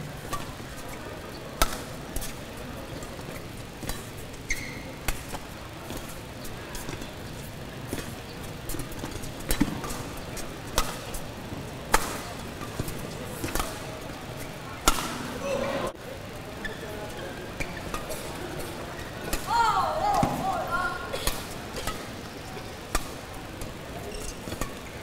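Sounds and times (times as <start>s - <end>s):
steady background noise: 0.0s - 25.0s
rackets striking shuttlecock: 0.2s - 15.4s, 17.6s - 20.6s, 21.2s - 25.0s.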